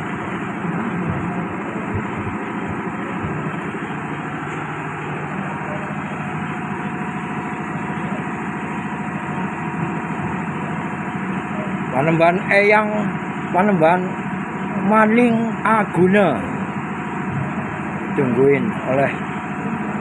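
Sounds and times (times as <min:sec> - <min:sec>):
steady mechanical drone: 0:00.0 - 0:20.0.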